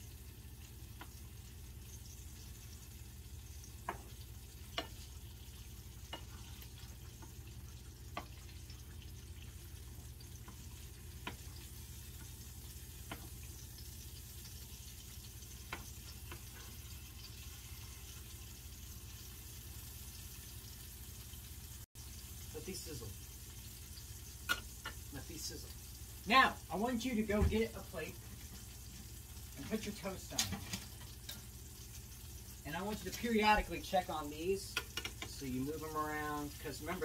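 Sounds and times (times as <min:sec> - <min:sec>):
food frying in a skillet: 0:00.0 - 0:37.0.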